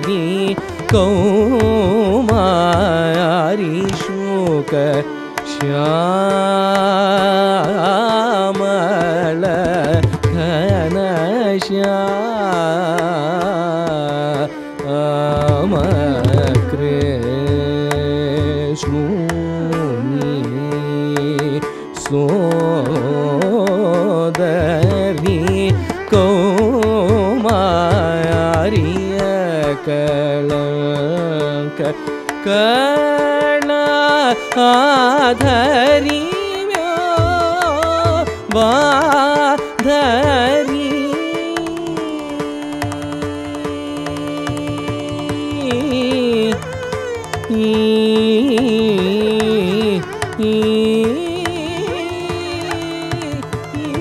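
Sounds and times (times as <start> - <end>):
man singing ornamented phrases: 0.0 - 54.0
violin: 0.0 - 54.0.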